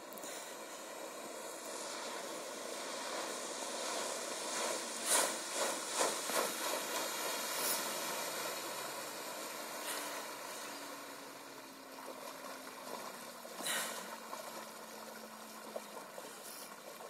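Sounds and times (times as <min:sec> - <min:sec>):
distant outboard boat engine: 0:00.0 - 0:17.0.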